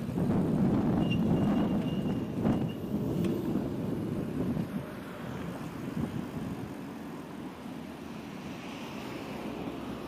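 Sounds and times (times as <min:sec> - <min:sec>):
wind rumbling on microphone: 0:00.0 - 0:08.5
city street traffic: 0:00.0 - 0:10.0.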